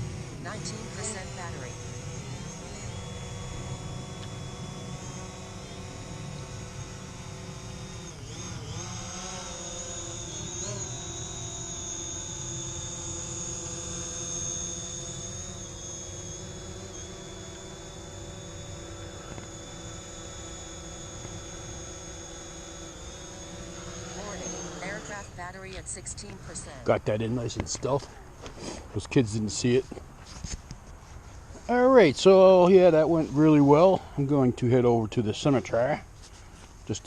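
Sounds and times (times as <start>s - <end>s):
drone propellers whining: 0.0s - 37.0s.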